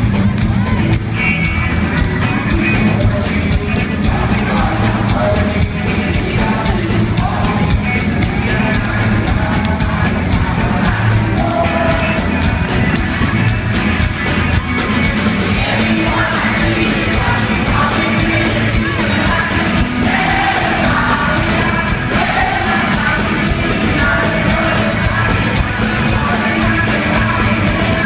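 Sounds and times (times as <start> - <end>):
audience yelling: 0.0 - 28.0
rock band playing: 0.0 - 28.0
man singing lead vocals: 2.3 - 13.2, 15.2 - 28.0.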